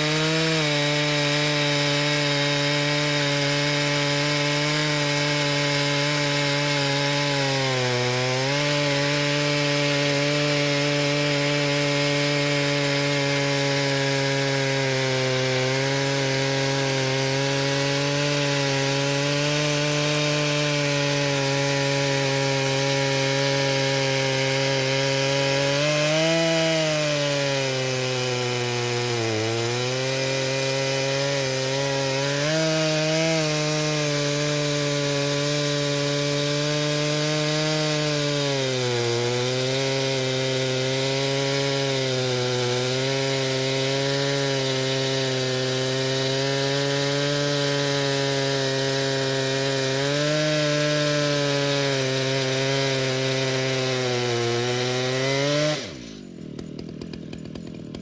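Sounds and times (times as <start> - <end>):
chainsaw ripping through log: 0.0 - 58.0.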